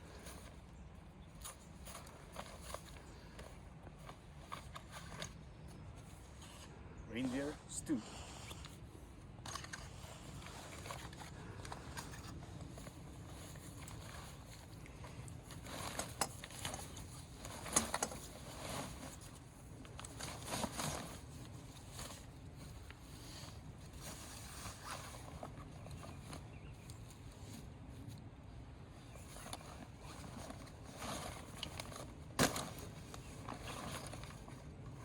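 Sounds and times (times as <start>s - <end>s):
rustling and scraping of packaging: 0.0s - 6.7s, 8.1s - 28.2s, 29.0s - 35.0s.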